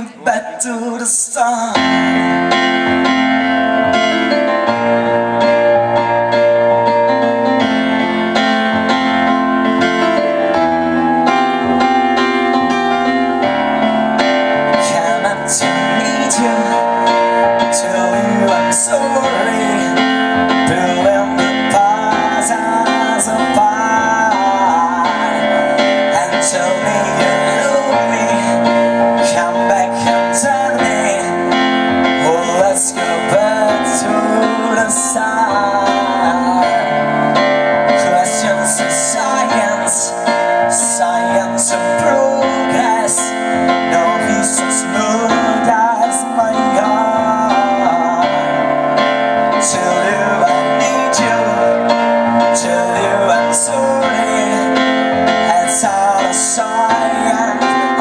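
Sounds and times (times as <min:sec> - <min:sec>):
man singing: 0:00.0 - 0:10.6, 0:11.8 - 0:58.0
stage piano chords: 0:00.0 - 0:58.0.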